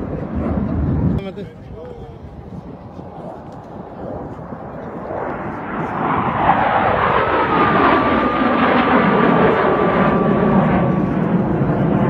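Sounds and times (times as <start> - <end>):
fighter jets roaring past: 0.0 - 12.0.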